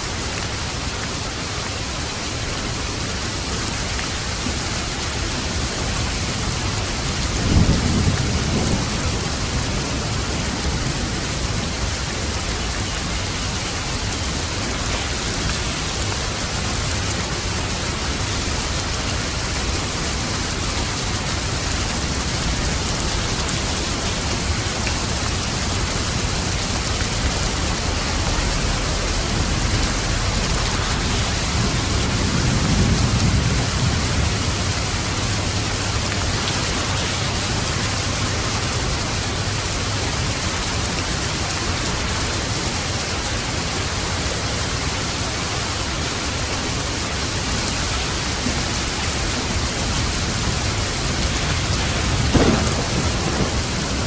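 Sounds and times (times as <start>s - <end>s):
heavy rain falling: 0.0s - 54.0s
low rumble of thunder: 5.3s - 42.2s, 47.6s - 54.0s.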